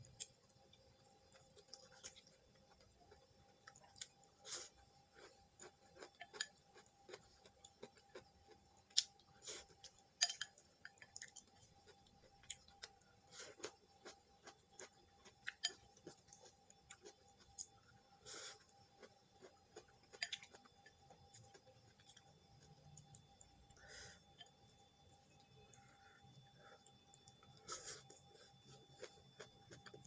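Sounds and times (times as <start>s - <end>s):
faint steady hum: 0.0s - 30.0s
soft chewing: 0.0s - 30.0s.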